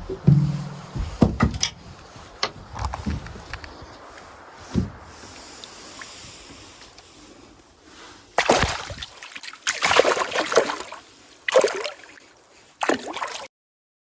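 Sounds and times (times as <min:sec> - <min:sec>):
water splashing: 0:00.0 - 0:07.3, 0:08.3 - 0:13.5.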